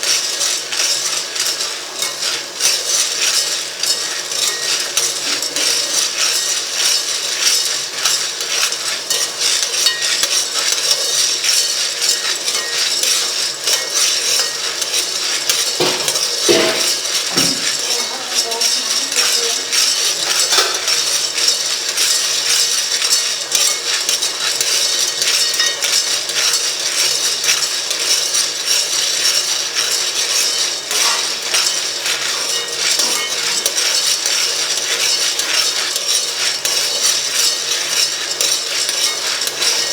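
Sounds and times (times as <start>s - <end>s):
metal utensils clinking on pots: 0.0s - 39.9s.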